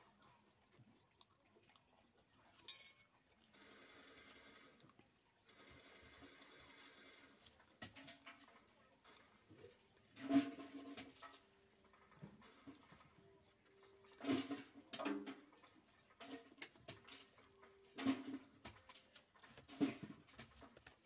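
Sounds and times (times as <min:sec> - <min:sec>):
man chewing: 0:00.5 - 0:21.0.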